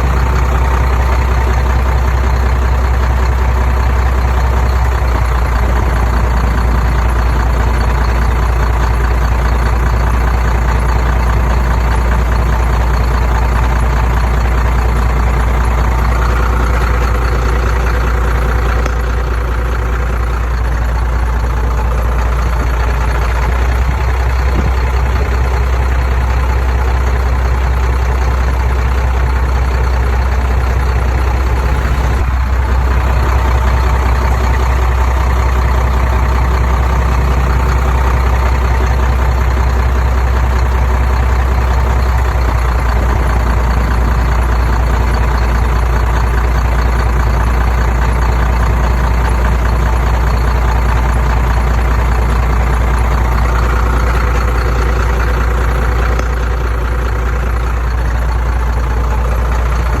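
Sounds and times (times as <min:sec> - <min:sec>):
heavy diesel engine running: 0:00.0 - 1:00.0.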